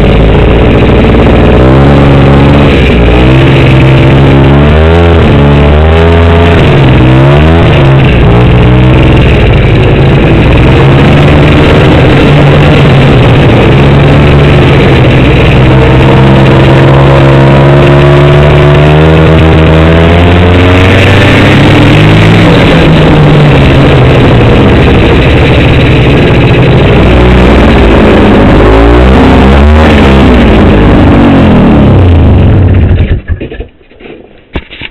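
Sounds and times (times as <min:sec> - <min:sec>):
snowmobile engine revving: 0:00.0 - 0:33.2.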